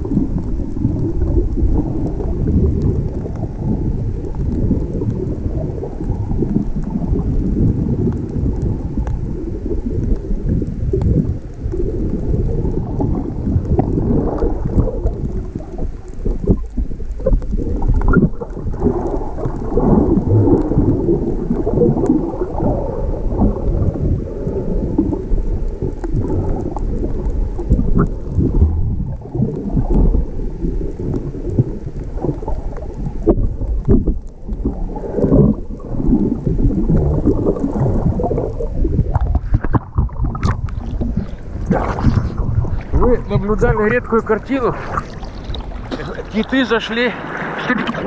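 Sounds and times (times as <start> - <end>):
stormy sea surf breaking: 0.0 - 17.0, 17.6 - 48.0.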